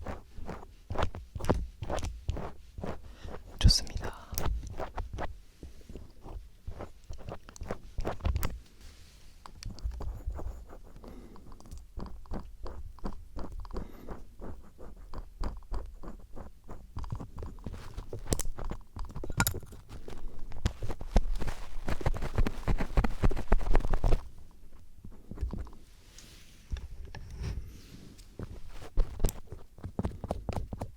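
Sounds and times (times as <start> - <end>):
screwdriver scraping and tapping microphone: 0.0 - 8.7, 9.4 - 30.9.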